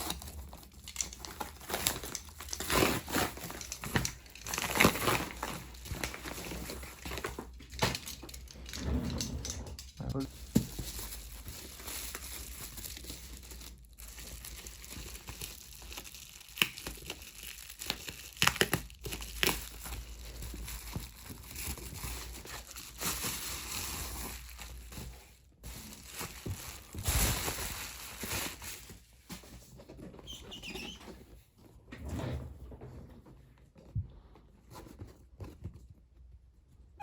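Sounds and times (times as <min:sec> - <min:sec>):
crinkling and rustling: 0:00.0 - 0:37.0.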